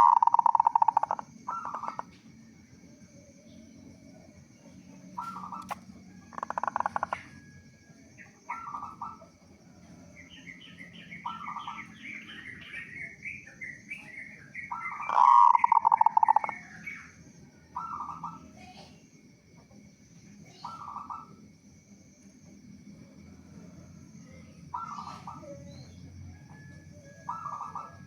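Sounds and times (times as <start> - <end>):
dove cooing: 0.0 - 2.2, 3.1 - 19.0, 20.4 - 21.5, 23.3 - 28.0.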